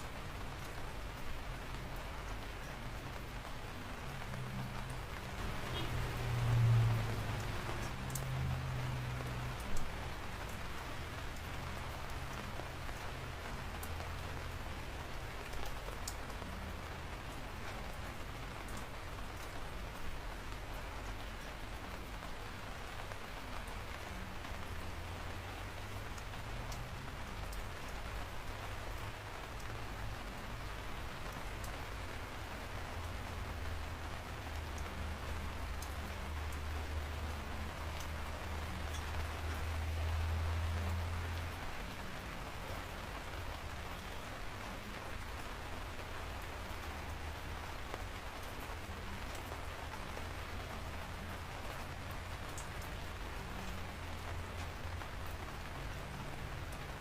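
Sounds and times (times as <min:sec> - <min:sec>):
rain falling on a surface: 0:00.0 - 0:57.0
raindrop ticks: 0:00.0 - 0:57.0.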